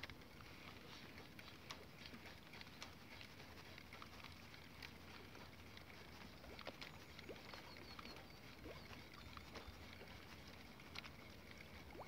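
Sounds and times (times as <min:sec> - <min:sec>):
faint ticks and patter: 0:00.0 - 0:12.0.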